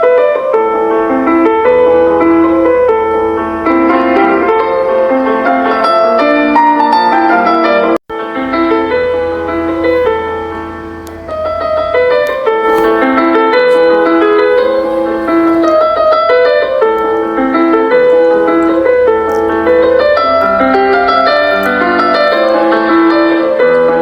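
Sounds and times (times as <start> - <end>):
piano melody: 0.0 - 24.0.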